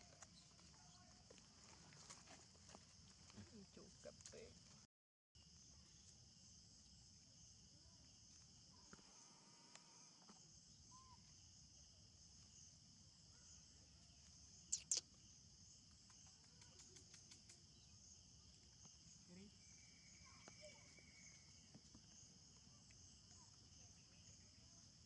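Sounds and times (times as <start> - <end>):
insects chirring: 0.0 - 4.8, 5.4 - 25.0.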